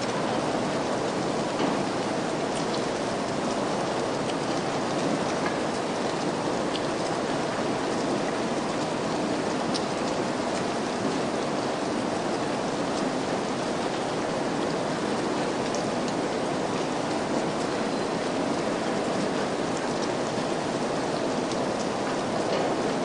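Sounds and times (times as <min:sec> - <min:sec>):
steady rain hiss: 0:00.0 - 0:23.0
raindrops ticking: 0:00.1 - 0:23.0.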